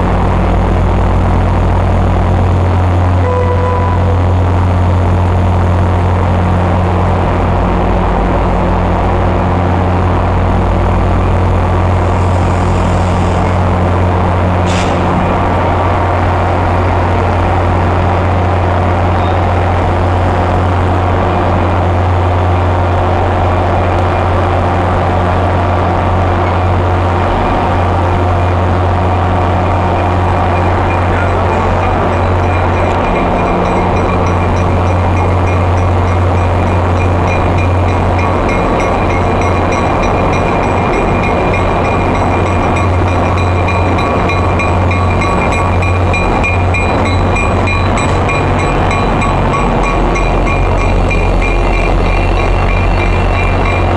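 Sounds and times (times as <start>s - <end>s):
diesel locomotive idling: 0.0s - 53.9s.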